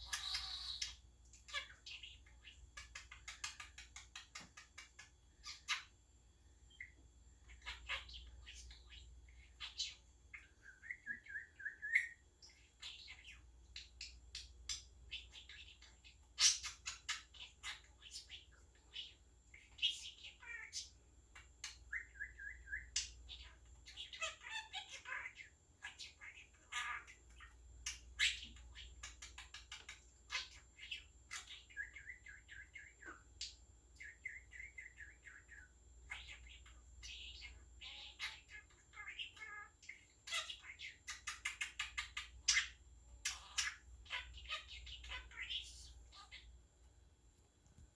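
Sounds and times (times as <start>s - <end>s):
budgie chirping and warbling: 0.0s - 6.0s, 6.7s - 46.6s.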